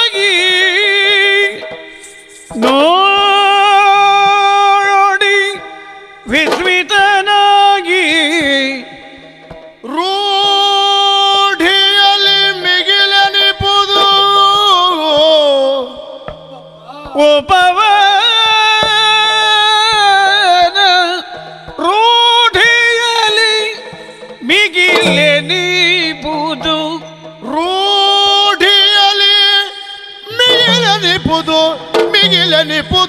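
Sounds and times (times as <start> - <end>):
hand-played barrel drum: 0.0 - 33.0
person singing ornamented phrases: 2.5 - 33.0.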